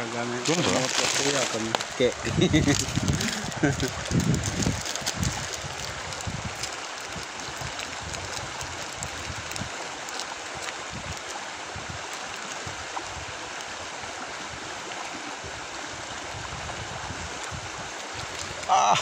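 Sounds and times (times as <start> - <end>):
creek water flowing and lapping: 0.0 - 19.0.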